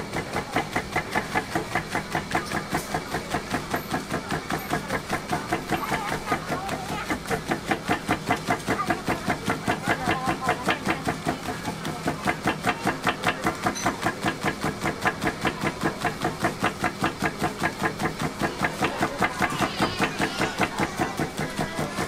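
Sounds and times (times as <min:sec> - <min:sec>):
motor hum: 0:00.0 - 0:22.0
press knocking rhythmically: 0:00.0 - 0:22.0.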